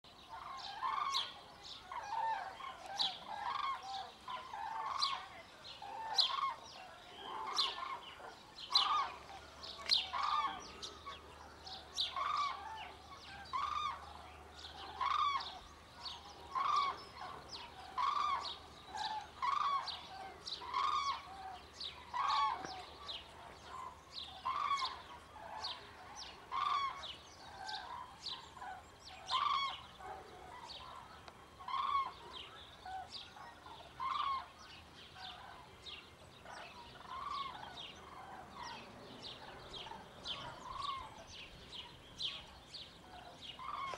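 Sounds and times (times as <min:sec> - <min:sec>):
cranes trumpeting calls: 0:00.1 - 0:35.8, 0:36.4 - 0:41.4, 0:42.3 - 0:43.9.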